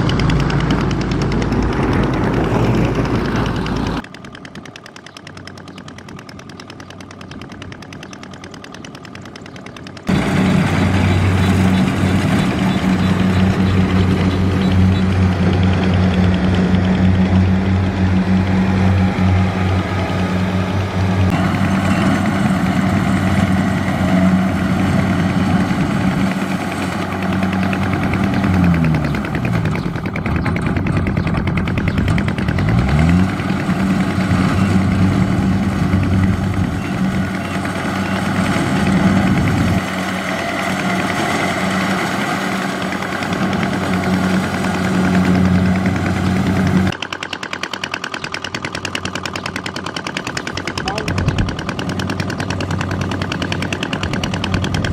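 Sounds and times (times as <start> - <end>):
farm machine engine running: 0.0 - 54.9.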